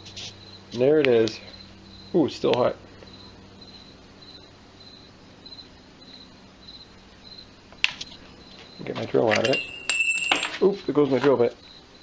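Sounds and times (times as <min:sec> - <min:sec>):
cricket chirping: 0:00.0 - 0:12.0
low electrical hum: 0:00.0 - 0:12.0.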